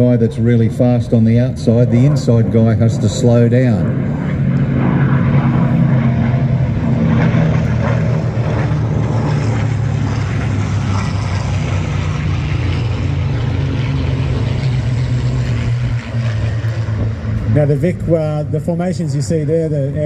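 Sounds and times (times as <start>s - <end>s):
propeller piston engines droning: 0.0s - 20.0s.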